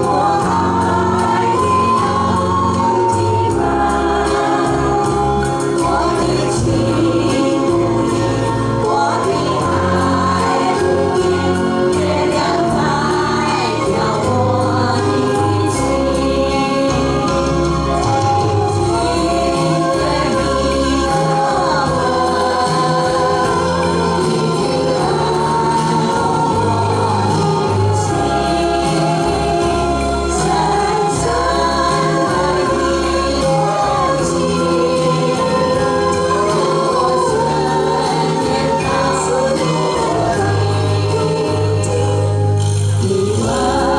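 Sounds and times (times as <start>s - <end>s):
accompaniment with held bass notes: 0.0s - 43.9s
group singing in chorus: 0.0s - 43.9s
instrumental backing track: 0.0s - 43.9s.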